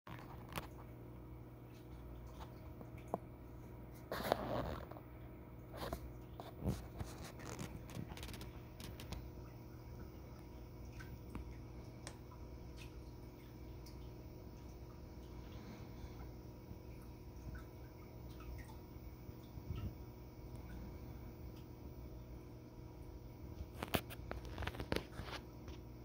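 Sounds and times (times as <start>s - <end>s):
aquarium equipment humming: 0.1s - 26.0s.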